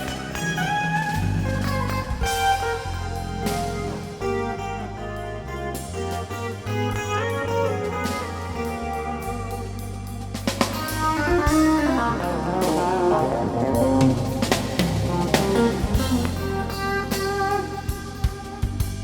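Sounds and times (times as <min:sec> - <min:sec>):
rock music with guitar and drums: 0:00.0 - 0:19.0.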